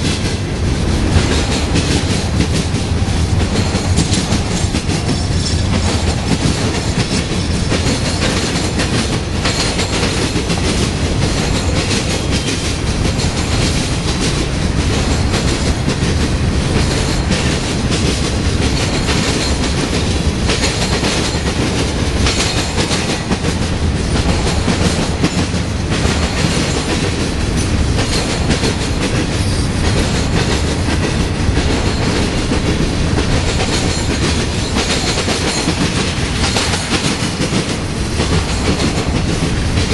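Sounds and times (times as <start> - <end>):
low train rumble: 0.0 - 39.9
train wheels clacking over rails: 0.0 - 39.9.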